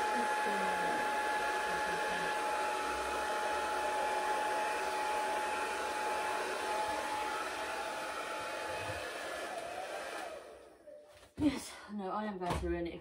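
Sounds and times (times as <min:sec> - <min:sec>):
hair dryer whining: 0:00.0 - 0:11.0.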